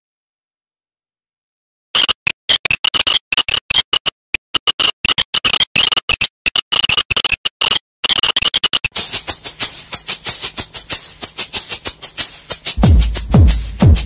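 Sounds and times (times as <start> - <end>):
turntable scratching: 2.0 - 14.0.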